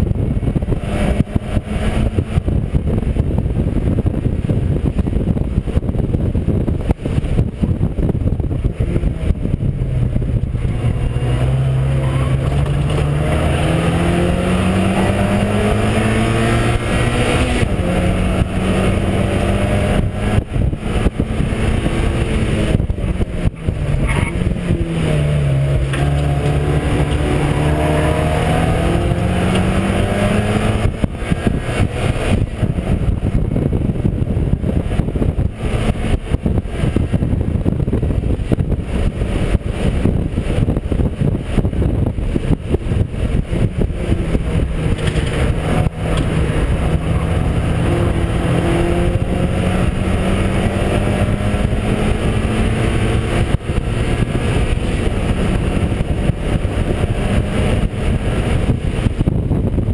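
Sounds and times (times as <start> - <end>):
race car engine: 0.0 - 59.9
wind and road noise: 0.0 - 59.9.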